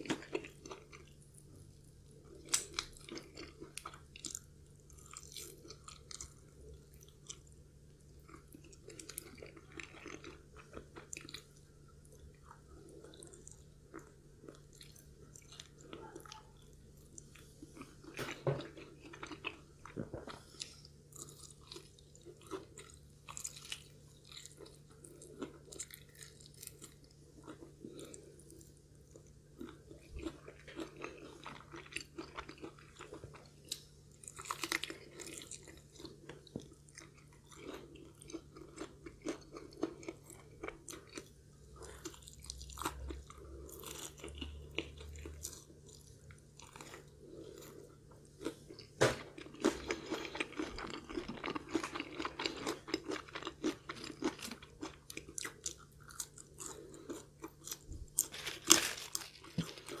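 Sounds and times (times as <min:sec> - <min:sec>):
chewing crispy fried chicken: 0:00.0 - 1:00.0.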